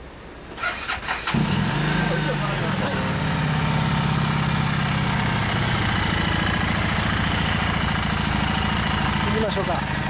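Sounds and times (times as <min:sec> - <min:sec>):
motorcycle engine idling: 0:01.3 - 0:10.0.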